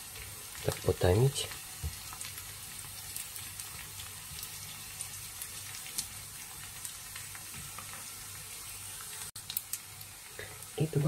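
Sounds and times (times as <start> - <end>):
onions sizzling in a frying pan: 0.0 - 11.0.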